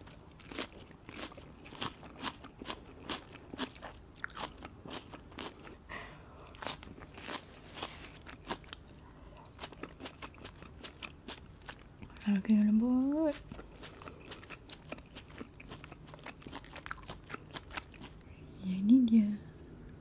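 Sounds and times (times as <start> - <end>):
lettuce crunching while chewed: 0.0 - 5.9, 6.5 - 18.3.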